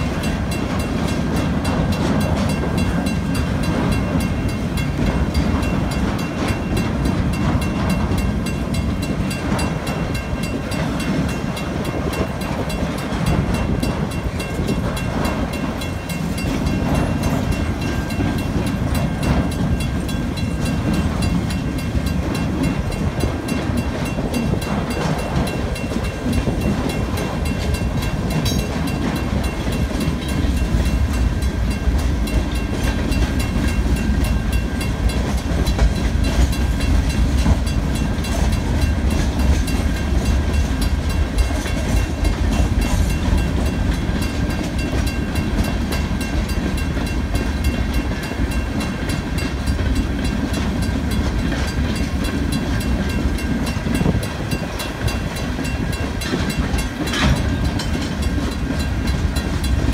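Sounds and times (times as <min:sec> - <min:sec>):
crossing signal bell ringing: 0:00.0 - 0:59.9
steel wheels rumbling on rails: 0:00.0 - 0:59.9.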